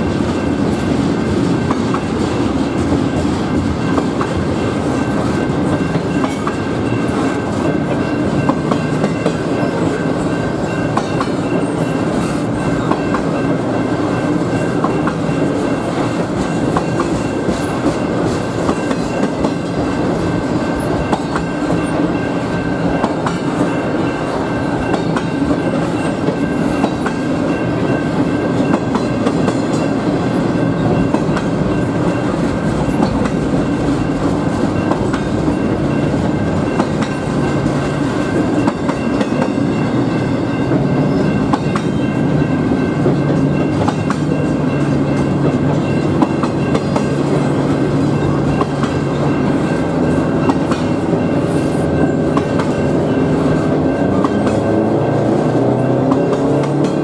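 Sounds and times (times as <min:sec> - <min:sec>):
train wheels rumbling on rail: 0:00.0 - 0:57.0
wheels clicking over rail joints: 0:00.1 - 0:57.0.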